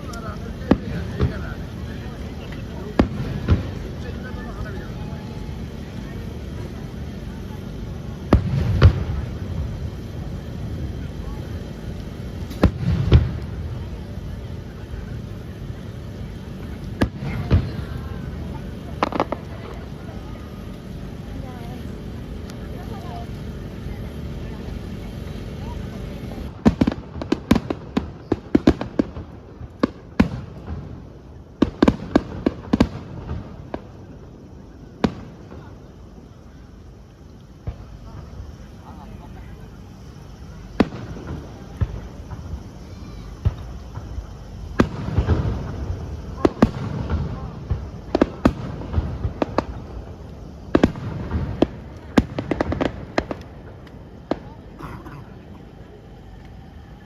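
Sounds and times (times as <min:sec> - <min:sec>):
fireworks bangs: 0:00.0 - 0:57.0
rumble of fireworks bursts: 0:00.0 - 0:57.0.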